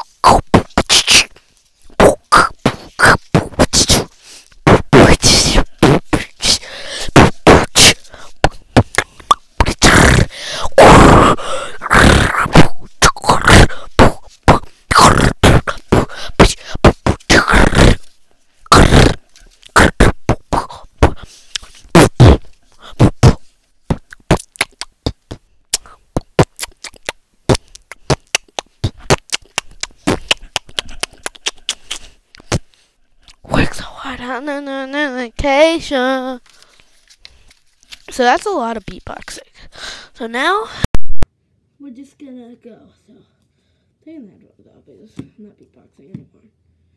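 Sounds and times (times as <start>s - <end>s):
boy beatboxing: 0.0s - 32.7s, 33.3s - 36.6s, 38.0s - 41.3s.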